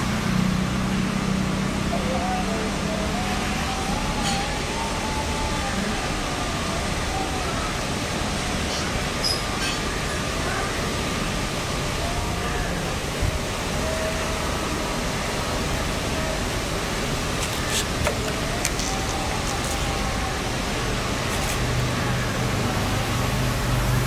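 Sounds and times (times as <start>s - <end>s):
rushing background noise: 0.0s - 24.0s.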